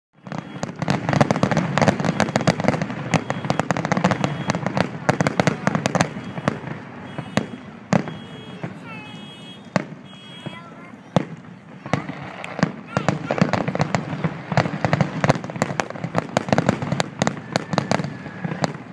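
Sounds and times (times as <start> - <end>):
fireworks bangs and crackling: 0.2 - 18.9.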